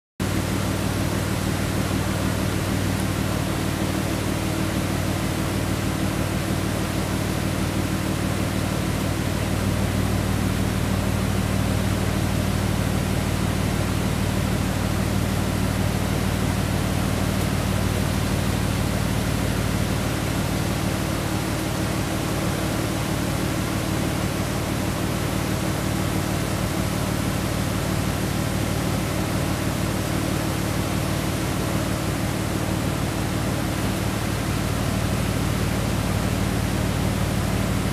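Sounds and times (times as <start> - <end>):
floodwater rushing: 0.2 - 37.9.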